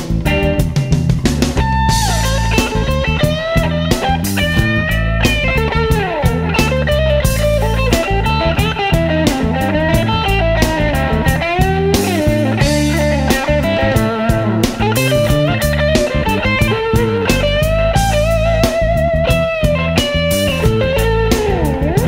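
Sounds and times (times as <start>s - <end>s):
electric blues band instrumental: 0.0s - 22.0s
lead electric guitar bending notes: 0.0s - 22.0s.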